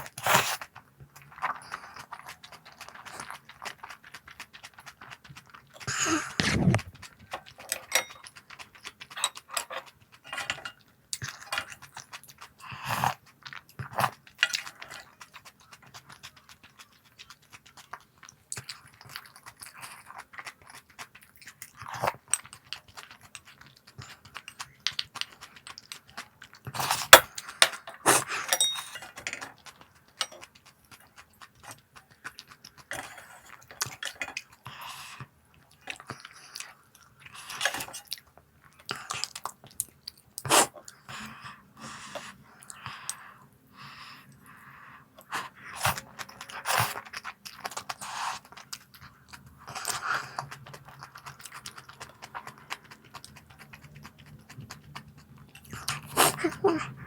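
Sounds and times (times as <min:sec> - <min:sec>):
crunchy snacks being chewed: 0:00.0 - 0:43.4, 0:44.0 - 0:57.0.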